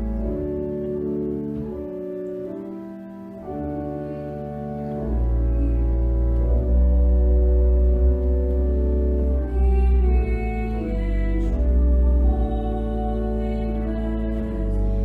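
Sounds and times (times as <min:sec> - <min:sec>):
deep organ pedal bass: 0:00.0 - 0:15.0
organ playing sustained chords: 0:00.0 - 0:15.0.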